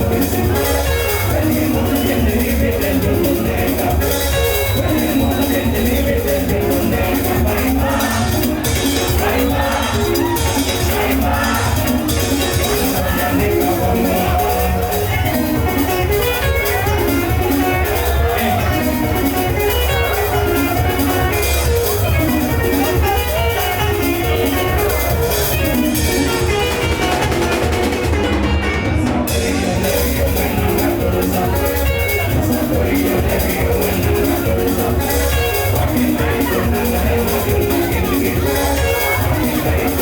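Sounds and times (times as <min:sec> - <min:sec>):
drum kit beat: 0:00.0 - 0:40.0
guitar lines: 0:00.0 - 0:40.0
live band instrumental: 0:00.0 - 0:40.0.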